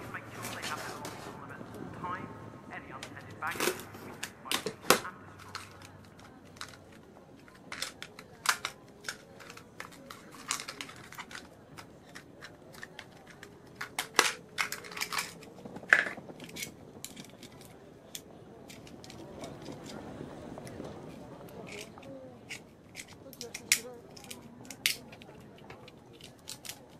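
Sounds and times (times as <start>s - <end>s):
toy parts clicking and knocking: 3.0s - 20.0s, 21.6s - 26.9s.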